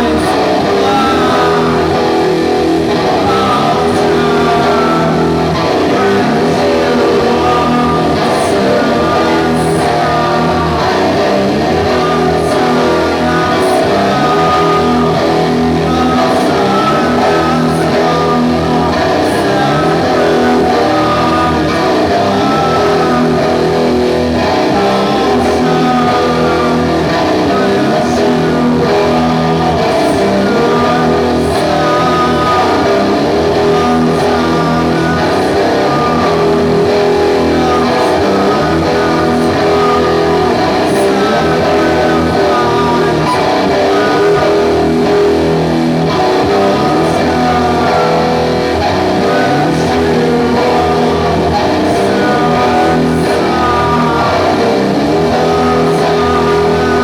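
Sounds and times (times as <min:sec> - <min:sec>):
distorted electric guitars: 0:00.0 - 0:57.0.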